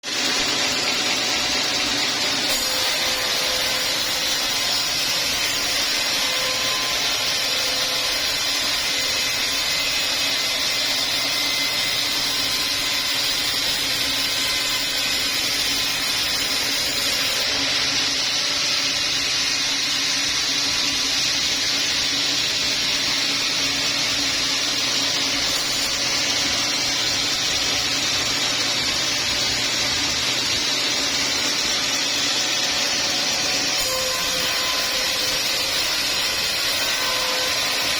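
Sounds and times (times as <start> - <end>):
sawmill machinery running: 0.0 - 37.9.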